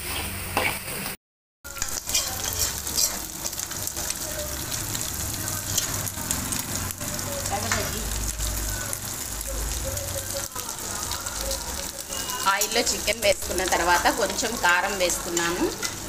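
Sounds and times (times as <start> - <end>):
chicken sizzling in hot oil: 1.7 - 16.0.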